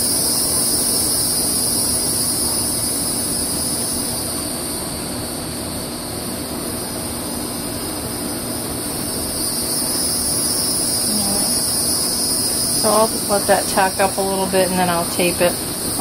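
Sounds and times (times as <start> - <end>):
insect chorus buzzing: 0.0 - 16.0.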